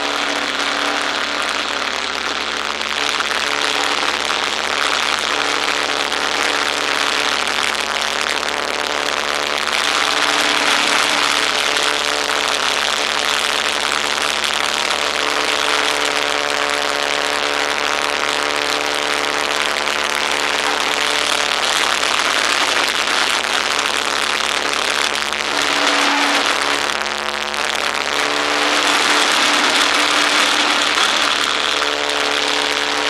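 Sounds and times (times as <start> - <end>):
biplane radial engine running: 0.0 - 33.0.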